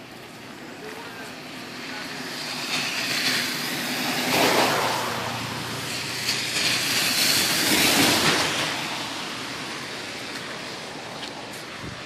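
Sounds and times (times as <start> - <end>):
car tyres hissing on wet road: 0.0 - 12.0.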